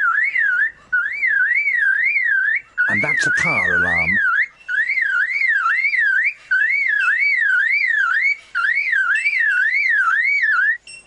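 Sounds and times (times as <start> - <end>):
lyrebird mimicking car alarm: 0.0 - 10.8.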